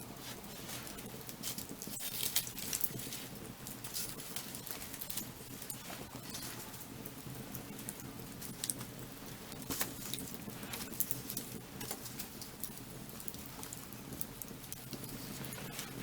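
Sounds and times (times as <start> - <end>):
firewood crackling and popping: 0.0 - 16.0
low rush of flames: 0.0 - 16.0.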